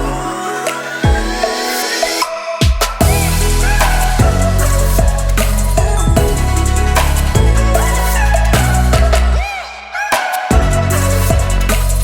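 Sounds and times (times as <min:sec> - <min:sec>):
electronic hip-hop music: 0:00.0 - 0:12.0.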